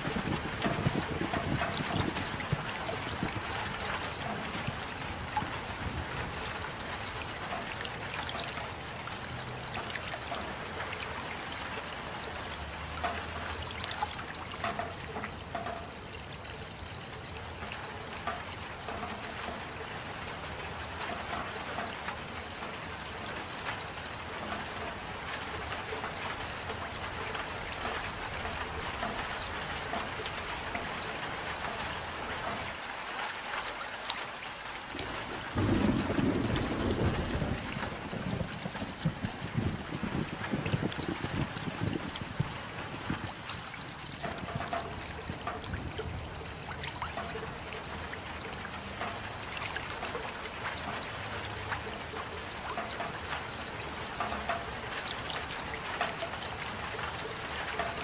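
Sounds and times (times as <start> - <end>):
steady rain: 0.0 - 58.0
water trickling and dripping: 0.0 - 58.0.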